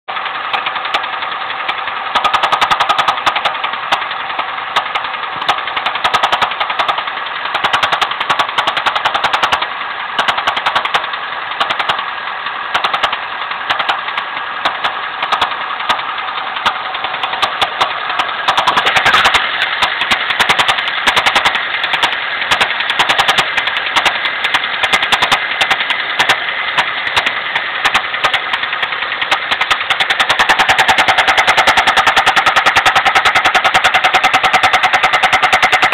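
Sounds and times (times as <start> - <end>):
engine running: 0.1 - 35.9
sharp metallic engine knock: 0.1 - 35.9.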